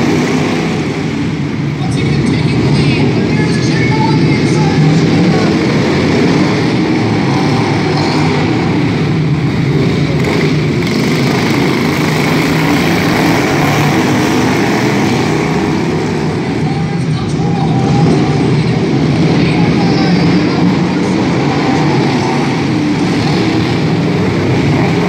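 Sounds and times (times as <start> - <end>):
lawn mower engines droning: 0.0 - 25.0.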